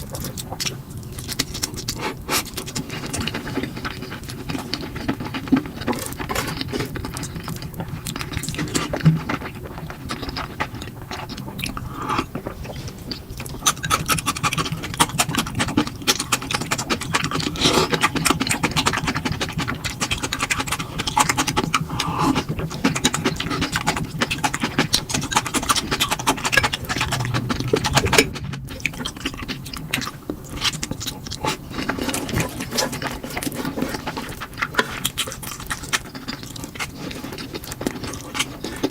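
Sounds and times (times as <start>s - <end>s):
slurping and chewing noodles: 0.0s - 38.9s.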